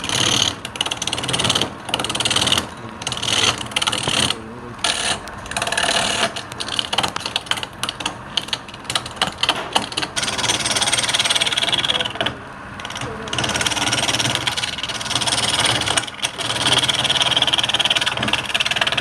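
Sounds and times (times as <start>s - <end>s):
lathe tool scraping wood: 0.0s - 19.0s
rapid ticks: 0.0s - 19.0s.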